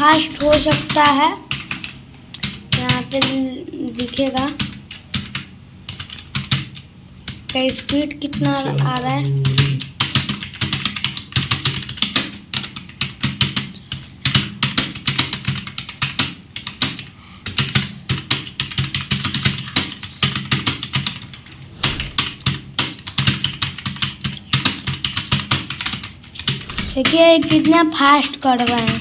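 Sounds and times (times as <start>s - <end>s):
fast typing on keyboard: 0.0s - 8.9s, 9.5s - 29.0s.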